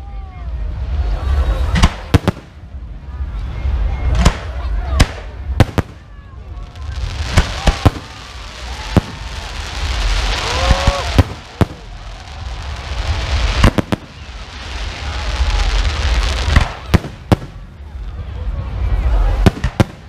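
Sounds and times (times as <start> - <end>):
hissing of burning fireworks sparks: 0.6 - 20.0.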